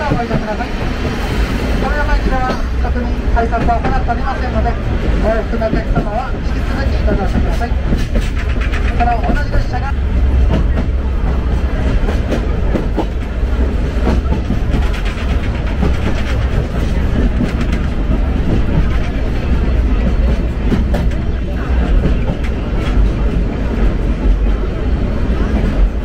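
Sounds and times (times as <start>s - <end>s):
train rumbling on track: 0.0s - 26.0s
wheels clacking over rails: 0.0s - 26.0s.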